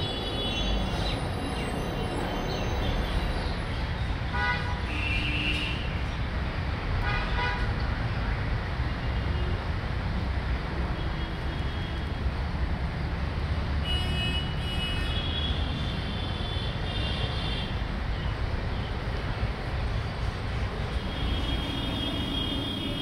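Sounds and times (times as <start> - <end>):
low rumble of city traffic: 0.0 - 23.0.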